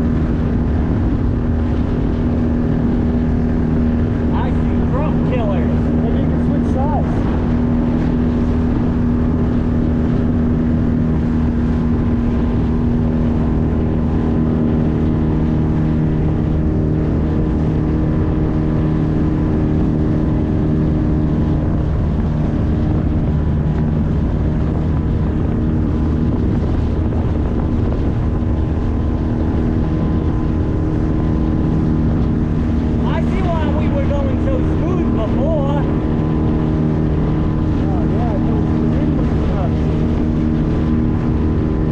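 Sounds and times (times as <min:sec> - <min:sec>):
hull and water noise: 0:00.0 - 0:41.9
outboard motor running: 0:00.0 - 0:41.9.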